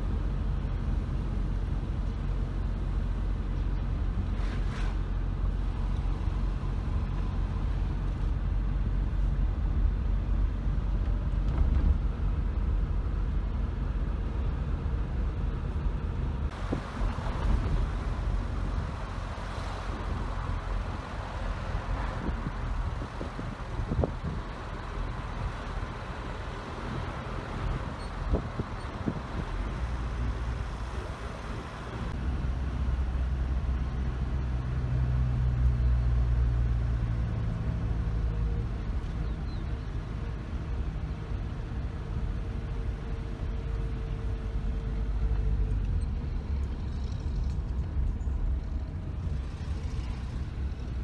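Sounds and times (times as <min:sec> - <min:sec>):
engine and road rumble: 0:00.0 - 0:51.0.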